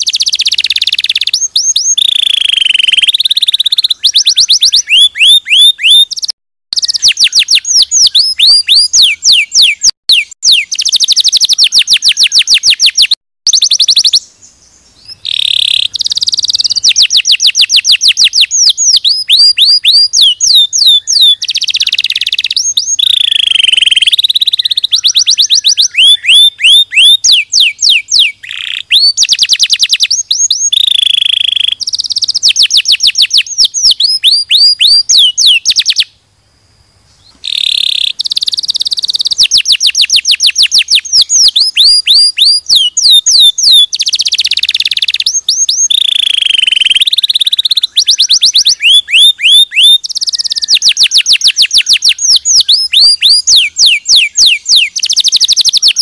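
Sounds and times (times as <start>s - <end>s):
canary singing trills: 0.0s - 36.2s, 37.1s - 56.0s.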